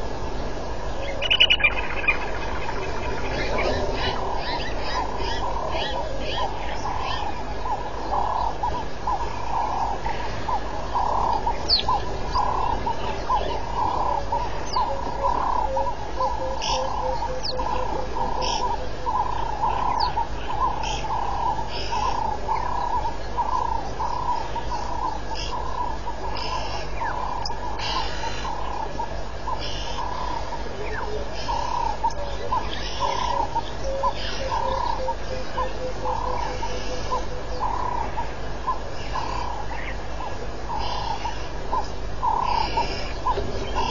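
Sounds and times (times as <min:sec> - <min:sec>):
low pulsing calls: 0:00.0 - 0:43.9.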